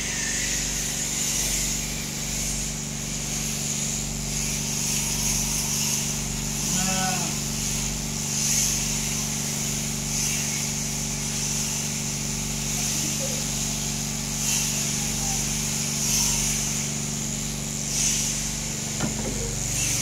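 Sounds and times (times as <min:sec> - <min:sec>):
electric shears running: 0:00.0 - 0:20.0.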